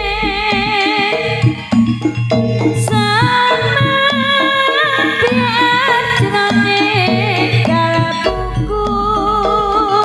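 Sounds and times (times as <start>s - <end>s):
bass line: 0.0s - 10.0s
live band music: 0.0s - 10.0s
wavering melody line: 0.0s - 10.0s.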